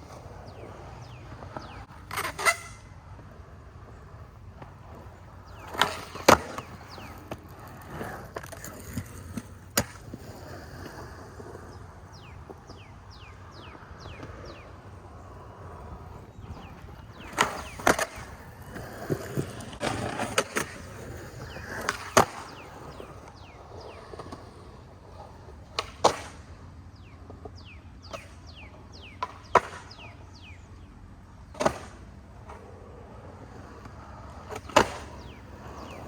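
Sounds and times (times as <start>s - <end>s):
skateboard clacking on ground: 0.0s - 36.0s
skateboard rolling: 0.0s - 36.0s.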